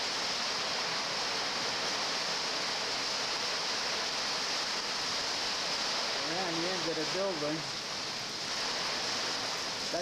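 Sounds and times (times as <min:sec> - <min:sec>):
heavy rain: 0:00.0 - 0:10.0
hurricane wind: 0:00.0 - 0:10.0.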